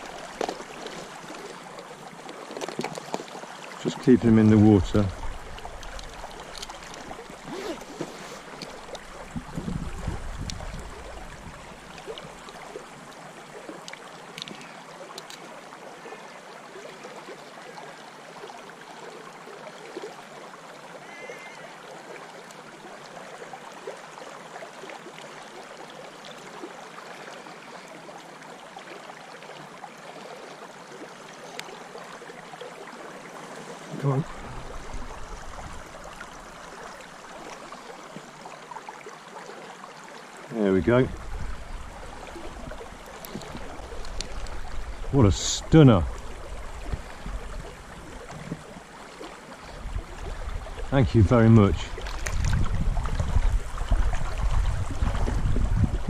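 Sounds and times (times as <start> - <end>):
river water running over stones: 0.0 - 56.0.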